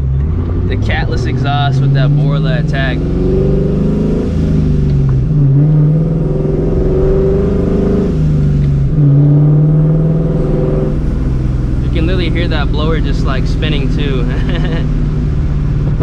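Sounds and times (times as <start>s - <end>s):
car engine revving while driving: 0.0s - 16.0s.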